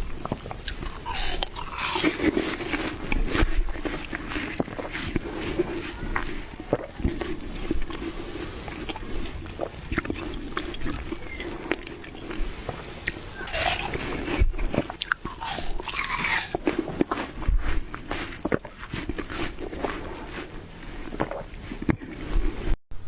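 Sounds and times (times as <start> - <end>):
watermelon crunching and smacking: 0.0 - 22.8.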